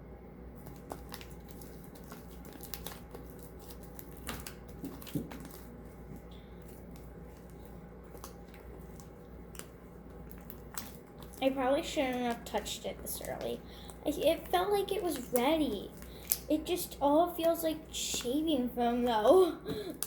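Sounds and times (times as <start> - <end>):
hands kneading sticky slime: 0.5 - 20.0.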